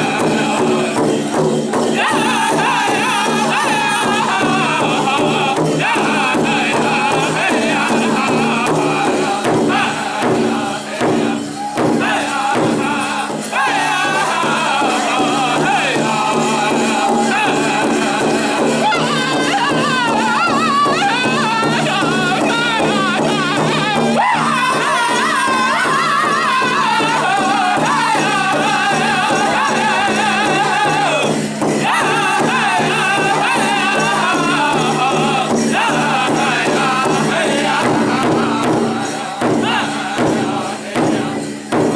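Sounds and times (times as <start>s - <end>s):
group singing in unison: 0.0s - 41.9s
large hand drum beating: 0.0s - 41.9s.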